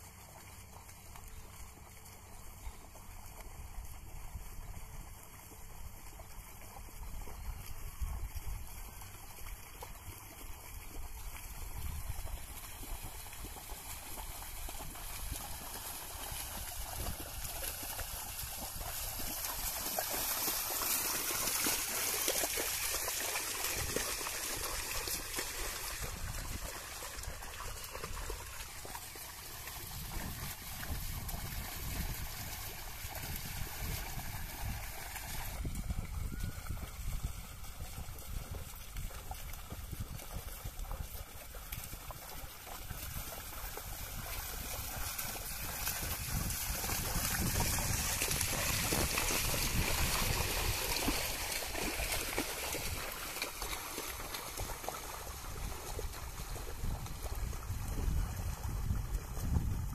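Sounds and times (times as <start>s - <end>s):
muddy water splashing: 0.0s - 59.9s.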